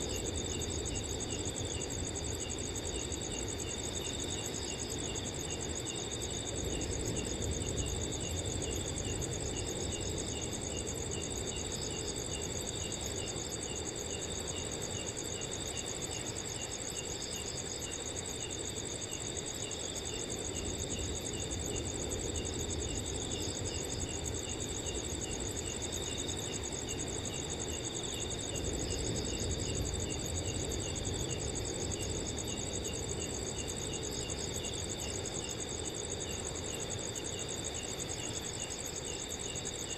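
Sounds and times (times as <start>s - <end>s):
cricket chirping: 0.0s - 39.9s
crickets trilling: 0.0s - 39.9s.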